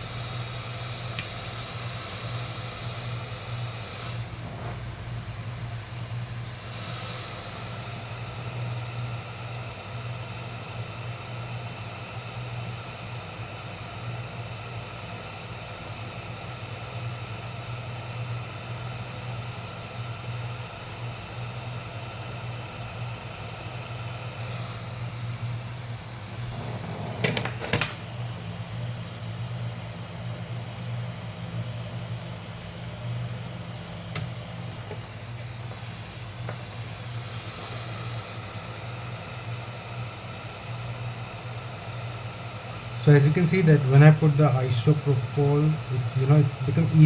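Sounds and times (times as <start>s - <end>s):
hot air blower humming and hissing: 0.0s - 47.0s.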